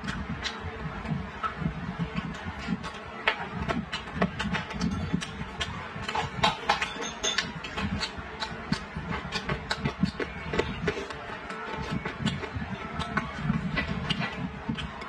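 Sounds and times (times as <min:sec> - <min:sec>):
person chewing food: 0:01.4 - 0:15.0.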